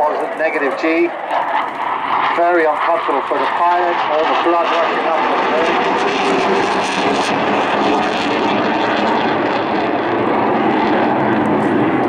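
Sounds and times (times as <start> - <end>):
loud fighter jet noise: 0.0 - 12.0.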